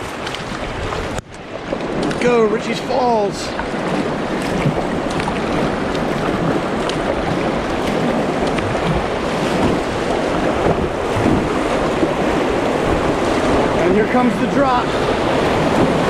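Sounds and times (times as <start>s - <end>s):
light water splashes: 0.0s - 16.0s
whitewater rushing: 0.0s - 16.0s.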